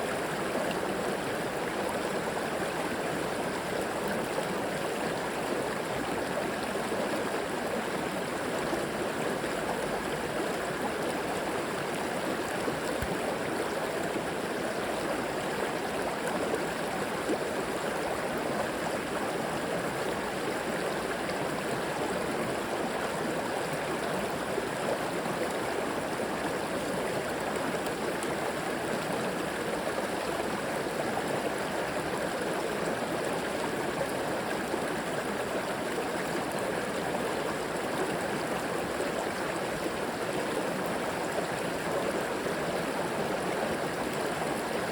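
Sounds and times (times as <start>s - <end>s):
river water rushing and gurgling: 0.0s - 44.9s.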